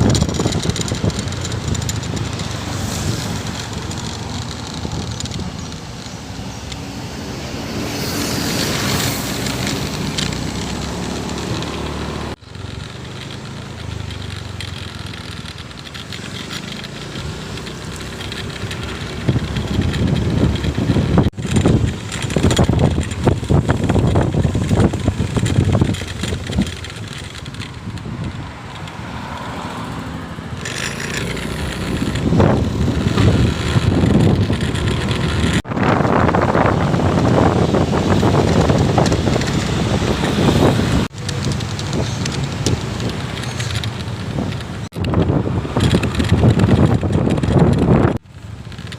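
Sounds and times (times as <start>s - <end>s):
road traffic passing: 0.0s - 48.9s.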